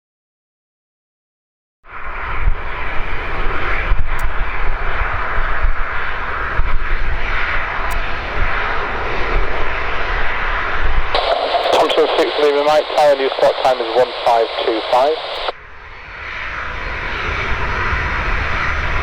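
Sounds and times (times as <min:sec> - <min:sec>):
airliner engines droning: 0:01.9 - 0:19.0.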